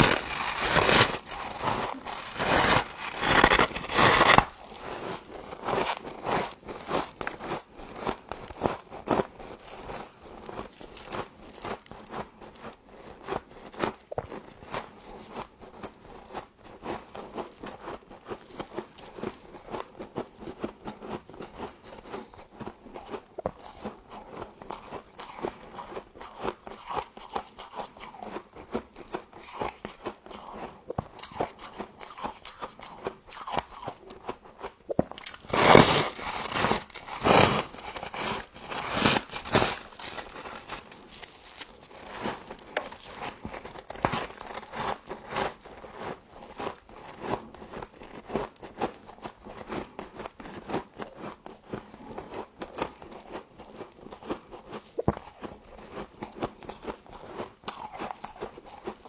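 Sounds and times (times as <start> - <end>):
frost being chewed crunching: 0.0 - 59.0.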